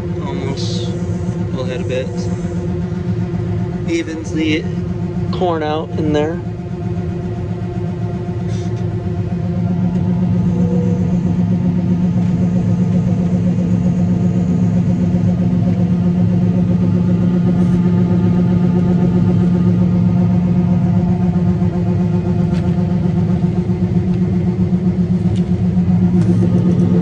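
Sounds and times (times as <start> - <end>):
combine harvester engine drone: 0.0 - 27.0.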